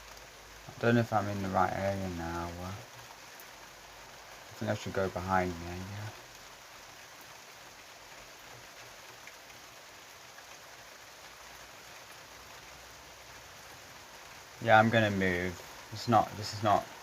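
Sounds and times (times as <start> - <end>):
light raindrop ticks: 0.0 - 17.0
steady rain hiss: 0.0 - 17.0.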